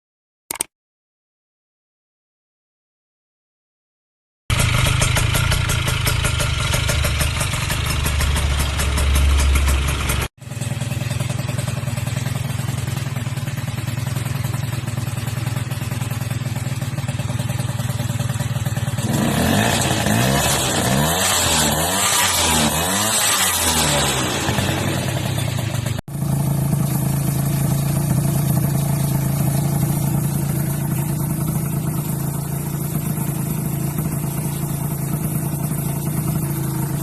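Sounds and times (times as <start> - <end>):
motorbike engine revving: 4.5 - 37.0.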